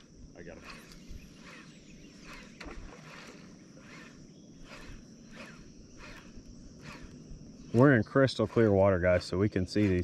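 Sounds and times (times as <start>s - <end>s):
soft rhythmic insect chirp: 0.0s - 10.0s
steady high insect hum: 0.0s - 10.0s.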